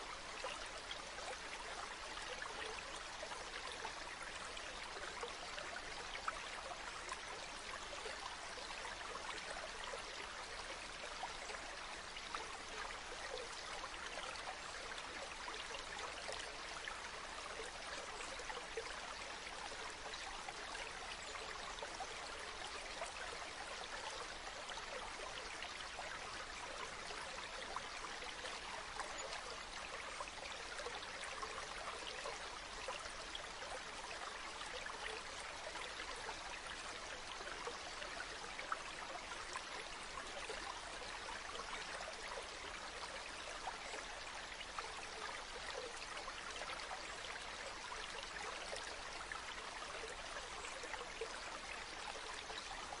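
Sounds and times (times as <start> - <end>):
water trickling over pebbles: 0.0 - 53.0.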